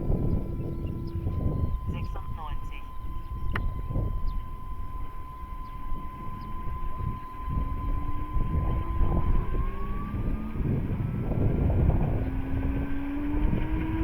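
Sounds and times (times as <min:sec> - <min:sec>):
model helicopter whining: 0:00.0 - 0:14.0
wind buffeting microphone: 0:00.0 - 0:14.0.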